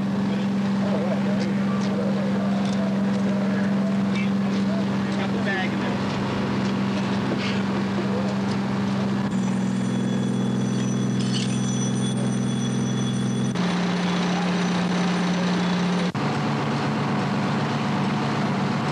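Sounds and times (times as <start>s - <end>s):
heavy engine droning: 0.0s - 18.9s.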